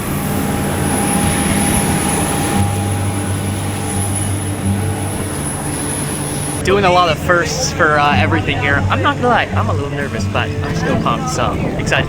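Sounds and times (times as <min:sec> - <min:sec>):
deeper hum: 0:00.0 - 0:12.0
propeller aircraft engine running: 0:00.0 - 0:12.0.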